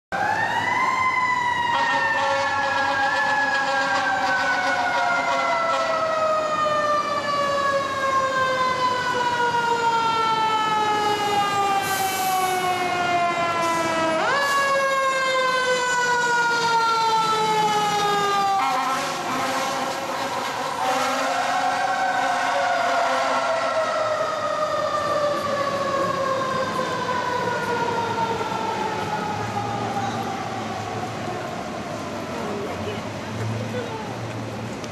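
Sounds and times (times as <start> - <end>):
mechanical siren wailing: 0.2 - 31.3.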